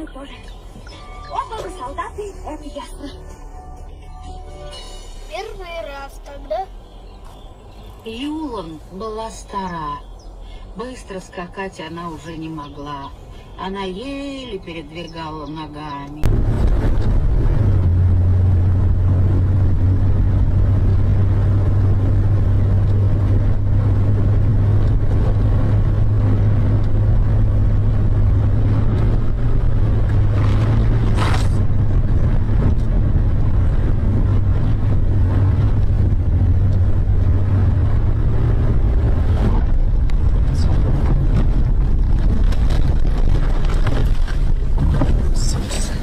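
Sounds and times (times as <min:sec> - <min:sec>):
car engine and road noise: 0:00.0 - 0:46.0.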